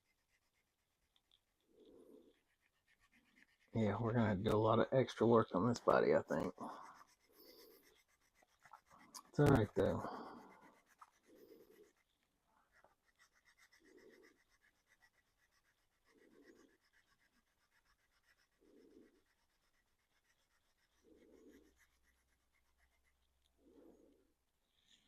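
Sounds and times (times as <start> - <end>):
faint scratching and rubbing: 0.0 - 25.0.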